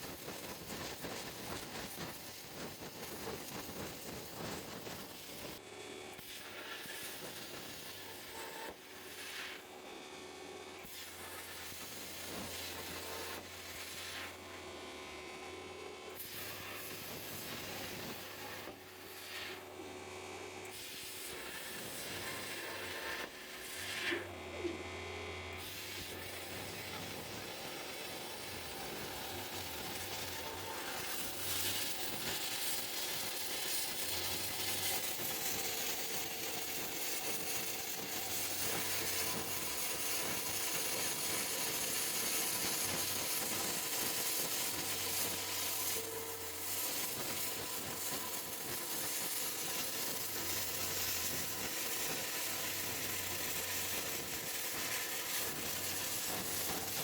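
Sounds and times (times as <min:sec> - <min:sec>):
plasma torch hissing on metal: 0:00.0 - 0:05.6, 0:06.2 - 0:09.7, 0:10.8 - 0:14.4, 0:16.2 - 0:19.7, 0:20.7 - 0:24.3, 0:25.6 - 0:57.0.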